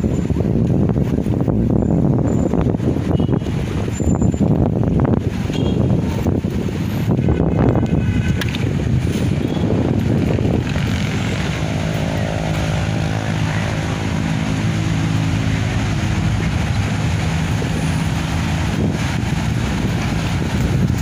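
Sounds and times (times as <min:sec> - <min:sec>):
engine drone: 0:00.0 - 0:21.0
wind buffeting microphone: 0:00.0 - 0:21.0.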